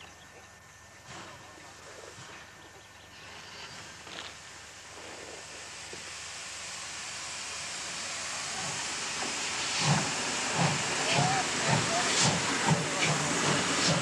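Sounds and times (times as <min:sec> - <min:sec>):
locomotive exhaust chuffs: 0:01.0 - 0:14.0
steam hissing: 0:01.0 - 0:14.0.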